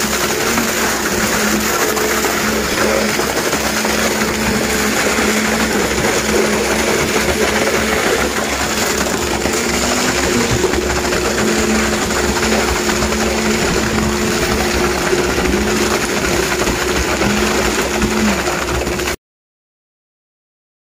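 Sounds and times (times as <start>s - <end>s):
pump truck mechanical hum: 0.0s - 19.2s.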